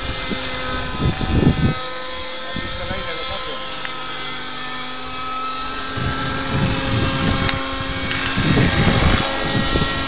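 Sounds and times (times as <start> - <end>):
motor whining: 0.0 - 10.0.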